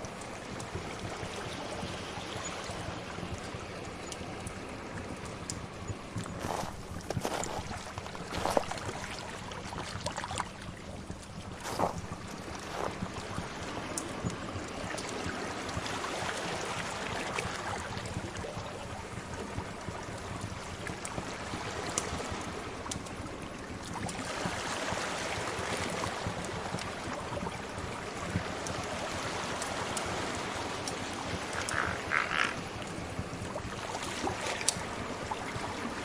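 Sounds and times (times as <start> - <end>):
sea waves washing: 0.0 - 19.8, 21.2 - 36.0.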